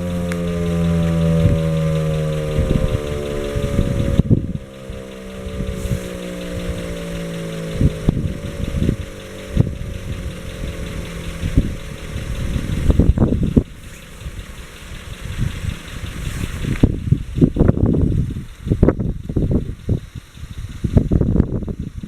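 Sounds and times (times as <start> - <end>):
warning siren winding down: 0.0 - 21.7
low rumbling and thumps: 0.0 - 22.0.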